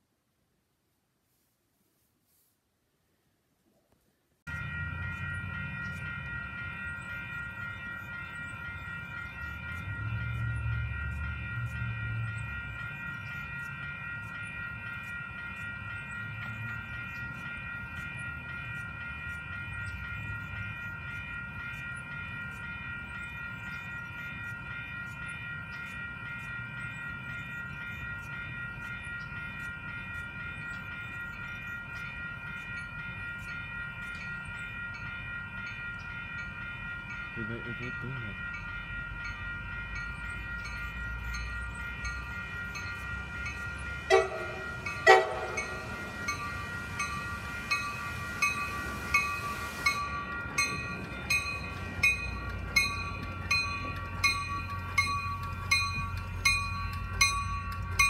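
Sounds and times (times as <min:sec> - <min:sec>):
railroad crossing bells ringing: 0:04.5 - 0:58.0.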